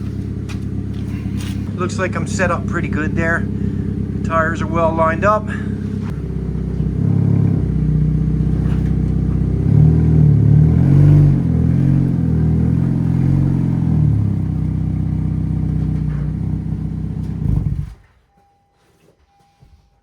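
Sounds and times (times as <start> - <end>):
car engine with exhaust leak: 0.0 - 18.2.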